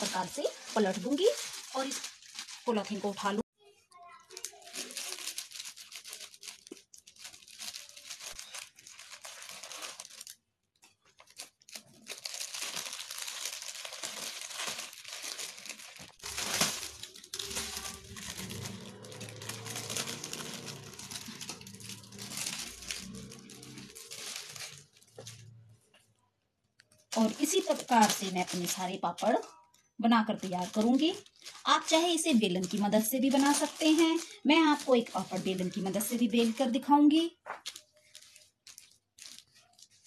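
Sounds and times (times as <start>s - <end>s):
plastic sheet crinkling: 0.0s - 3.4s, 4.1s - 25.7s, 26.8s - 29.5s, 30.1s - 40.0s.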